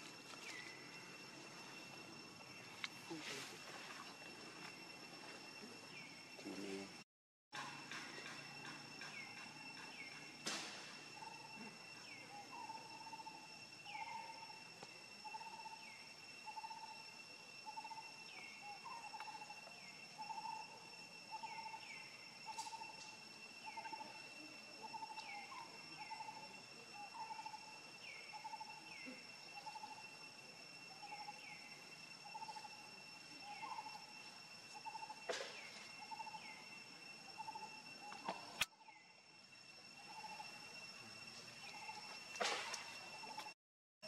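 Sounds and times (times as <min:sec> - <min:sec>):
high-pitched insect drone: 0:00.0 - 0:07.0, 0:07.6 - 0:43.6.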